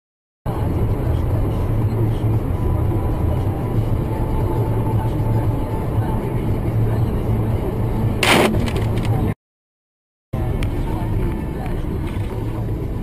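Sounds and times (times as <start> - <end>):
car engine and road rumble: 0.5 - 9.4, 10.4 - 13.0.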